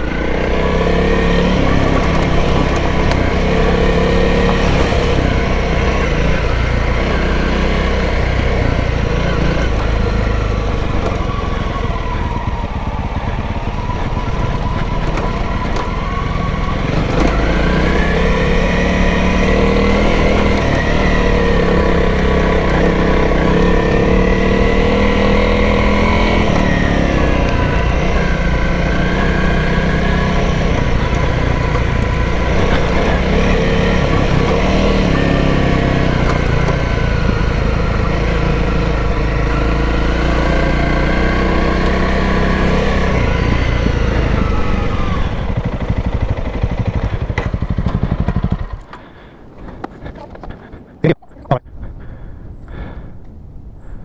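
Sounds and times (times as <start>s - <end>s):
motorcycle engine running: 0.0s - 50.8s.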